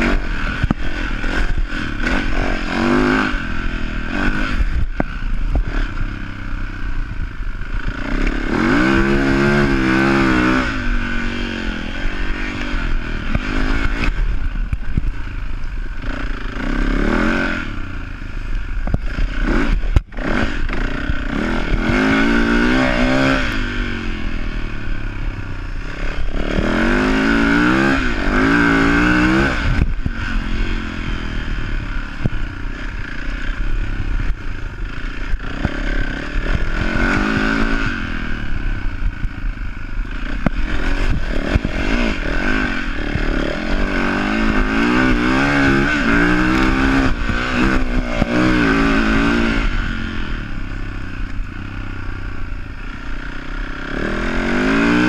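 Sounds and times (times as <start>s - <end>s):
dirt bike engine revving: 0.0s - 55.0s
steady low rumble: 0.0s - 55.0s.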